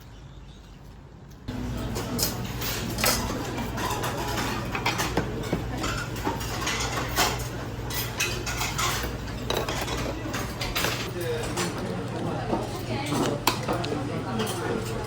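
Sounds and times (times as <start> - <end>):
dishes and cutlery clinking: 1.5 - 15.0.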